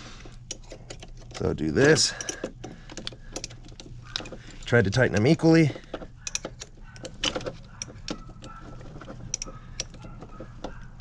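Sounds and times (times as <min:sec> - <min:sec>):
wrench metallic clicks: 0:00.5 - 0:11.0.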